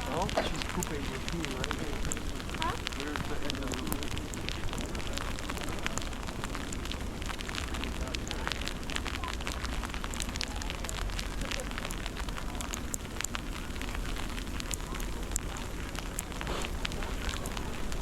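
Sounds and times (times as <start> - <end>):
irregular crackling and ticking: 0.0 - 18.0.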